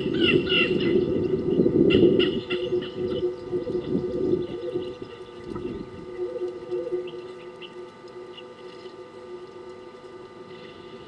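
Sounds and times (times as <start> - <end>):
small birds chirping: 0.0 - 9.1
doves cooing: 0.0 - 11.0.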